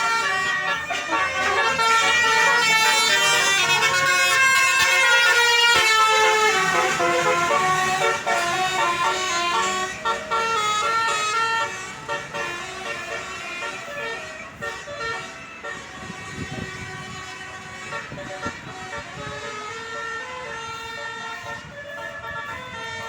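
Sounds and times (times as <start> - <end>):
multi-tone air horn melody: 0.0 - 23.0.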